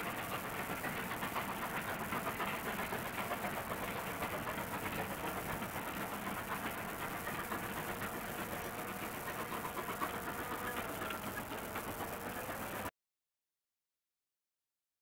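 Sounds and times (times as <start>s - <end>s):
distant steam train rumble: 0.0s - 12.9s.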